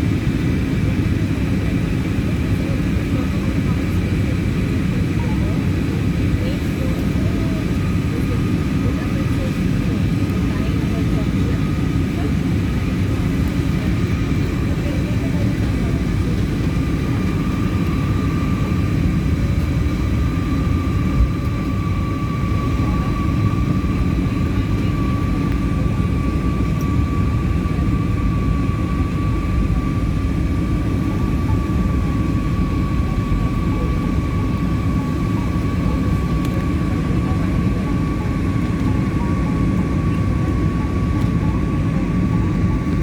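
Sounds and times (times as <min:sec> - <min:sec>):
jet engine cabin rumble: 0:00.0 - 0:43.0.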